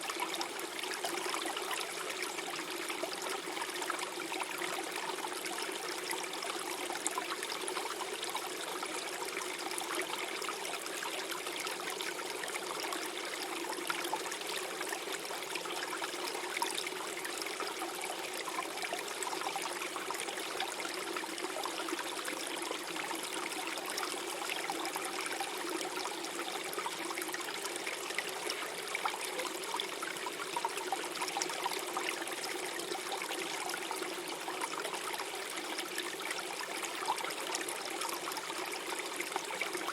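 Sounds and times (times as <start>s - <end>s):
stream gurgling over stones: 0.0s - 39.9s.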